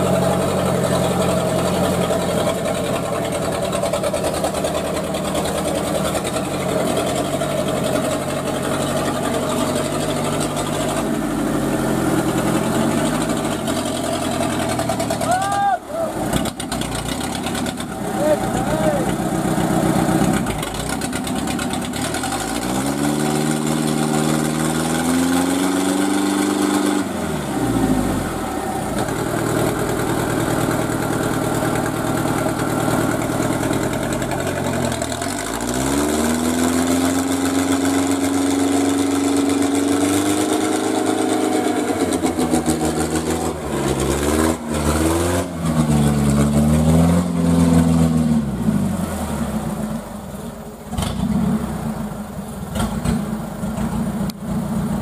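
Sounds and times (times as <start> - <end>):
dump truck engine revving: 0.0 - 55.0.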